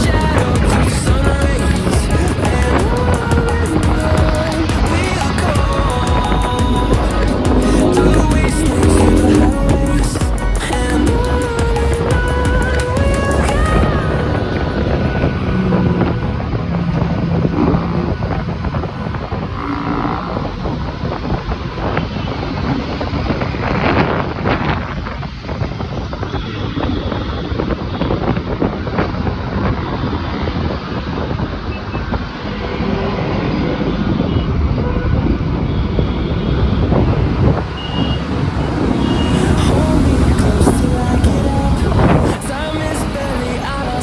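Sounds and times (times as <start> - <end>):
motorcycle engines running: 0.0 - 44.0
wind buffeting microphone: 0.0 - 44.0.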